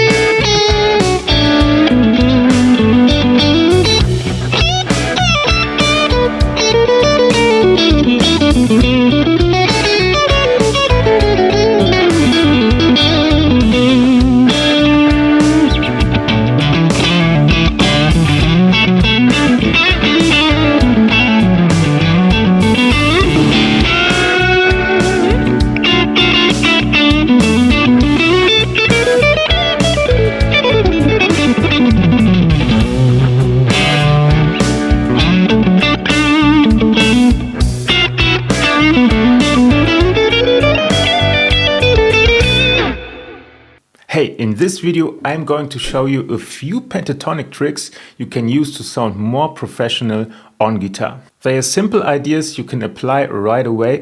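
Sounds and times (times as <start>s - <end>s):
bass: 0.0s - 43.7s
electric guitar lead melody: 0.0s - 43.8s
drums: 0.0s - 44.1s.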